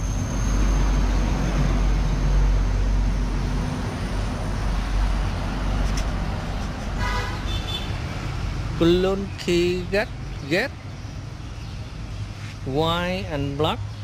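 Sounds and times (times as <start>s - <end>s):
vehicle passing: 0.0s - 12.7s
road traffic rumble: 0.0s - 14.0s.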